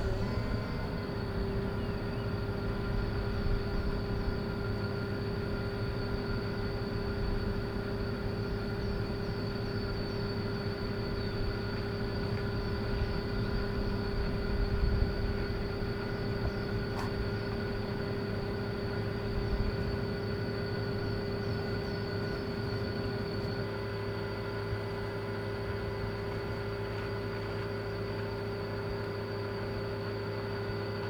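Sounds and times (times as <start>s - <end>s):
engine hum with whine: 0.0s - 31.0s.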